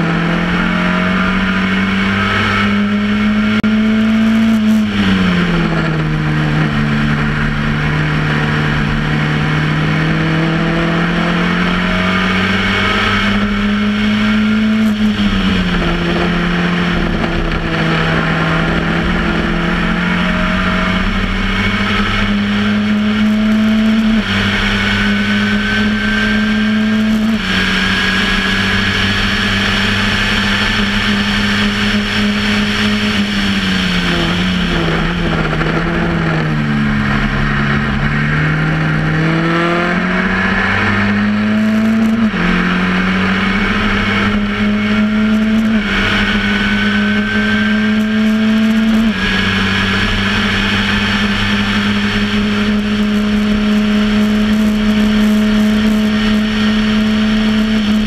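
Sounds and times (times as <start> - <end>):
racing car engine revving: 0.0 - 58.0
wind and tyre rush: 0.0 - 58.0.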